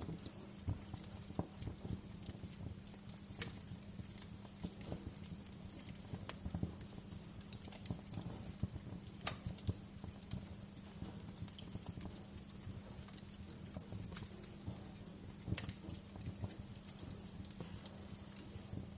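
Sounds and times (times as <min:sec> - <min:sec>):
low rumble of burning: 0:00.0 - 0:18.9
wood fire crackling: 0:00.0 - 0:18.9.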